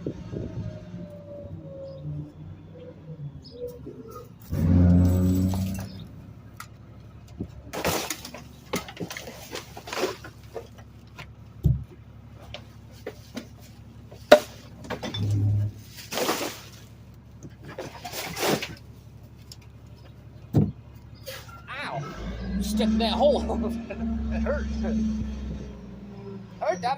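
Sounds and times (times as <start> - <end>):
garbage truck idling: 0.0 - 26.9.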